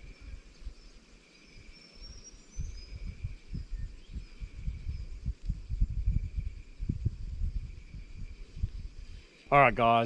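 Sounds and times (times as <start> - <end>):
insect drone: 0.0 - 10.0
small birds chirping: 0.0 - 10.0
wind buffeting microphone: 0.0 - 10.0.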